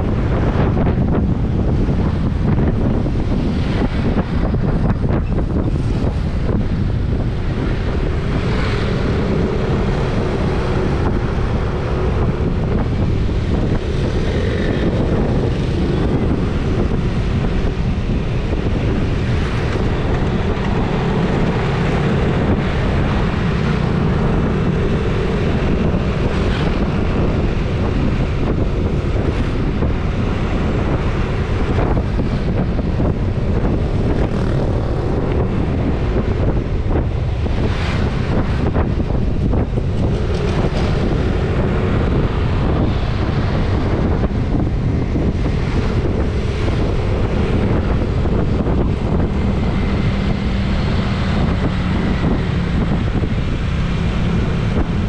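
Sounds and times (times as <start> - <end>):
engine and road noise: 0.0 - 55.0
wind rushing over microphone: 0.0 - 55.0.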